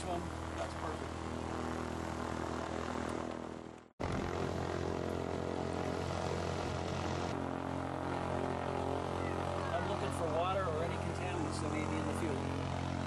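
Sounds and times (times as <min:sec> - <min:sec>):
propeller aircraft engine running: 0:00.0 - 0:13.0.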